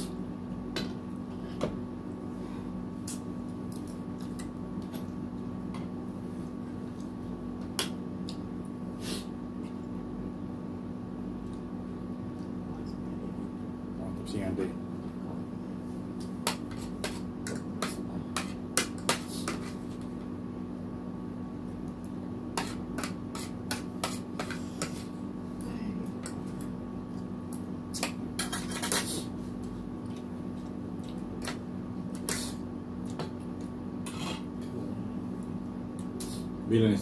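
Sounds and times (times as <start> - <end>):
air-conditioner hum: 0.0 - 37.0.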